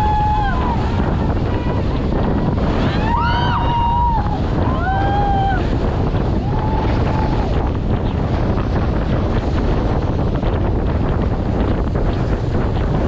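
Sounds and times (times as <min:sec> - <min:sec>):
water rushing past: 0:00.0 - 0:13.0
wind buffeting microphone: 0:00.0 - 0:13.0.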